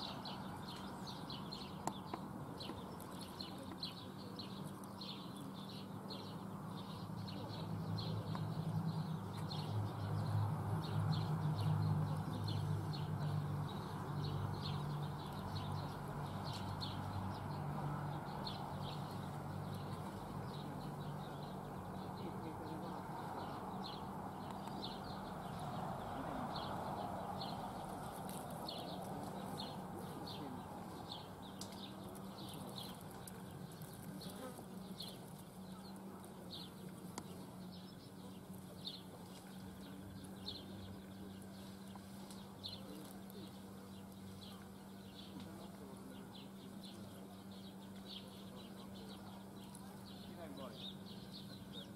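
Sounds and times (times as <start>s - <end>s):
soft outdoor noise: 0.0s - 51.9s.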